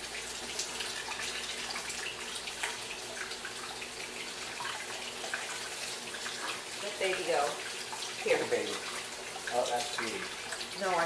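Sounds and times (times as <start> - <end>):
tap water running into basin: 0.0 - 11.0
water splashes and drips: 0.0 - 11.0.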